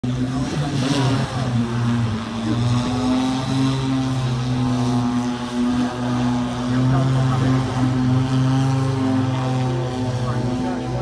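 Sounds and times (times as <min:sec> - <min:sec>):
electric propellers humming: 0:00.0 - 0:11.0.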